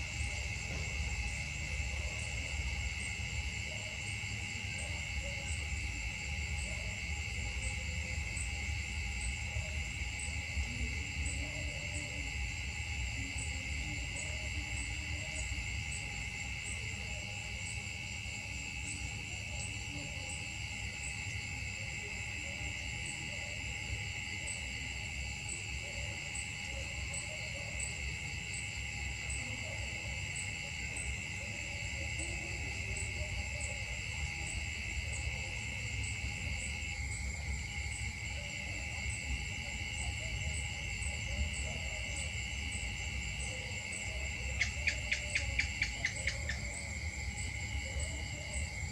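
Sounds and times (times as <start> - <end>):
insects droning in trees: 0.0 - 48.9.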